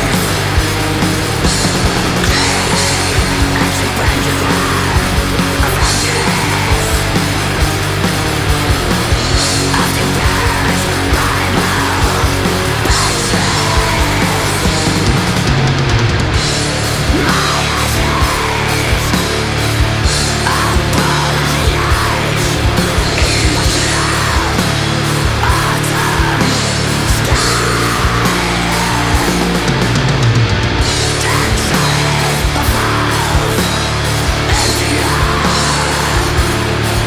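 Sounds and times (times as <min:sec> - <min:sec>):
black metal music: 0:00.0 - 0:37.0.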